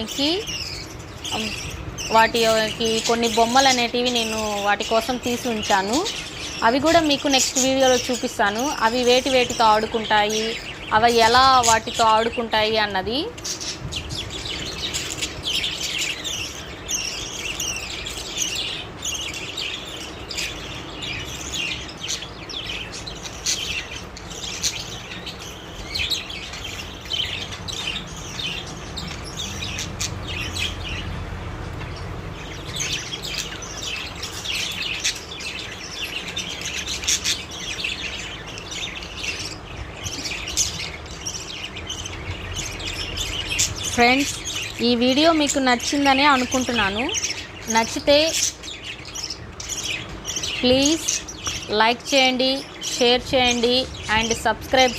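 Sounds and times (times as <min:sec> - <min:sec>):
budgerigars chattering: 0:00.0 - 0:31.2, 0:31.8 - 0:54.9.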